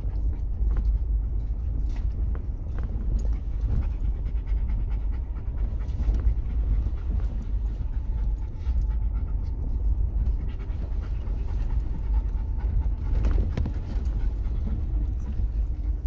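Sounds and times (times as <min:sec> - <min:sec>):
vehicle low rumble: 0:00.0 - 0:16.0
dog panting: 0:00.1 - 0:16.0.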